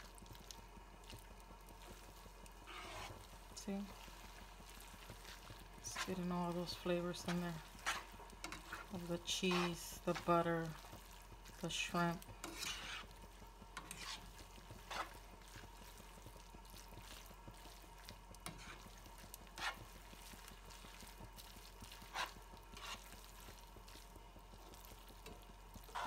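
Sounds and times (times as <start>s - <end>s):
faint sizzle: 0.0s - 26.0s
tongs stirring pasta in pan: 0.0s - 26.0s.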